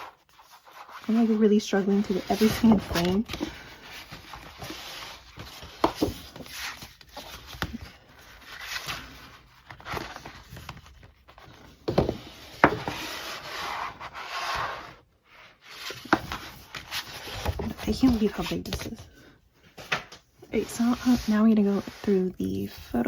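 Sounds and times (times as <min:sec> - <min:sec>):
paper and cardboard rustling: 0:00.0 - 0:23.0.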